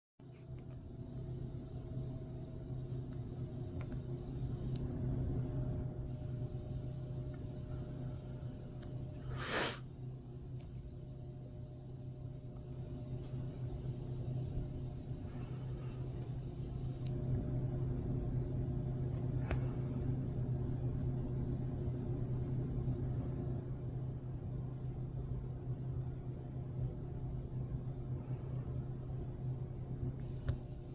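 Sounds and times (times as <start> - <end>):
low mechanical hum: 0.2 - 30.9.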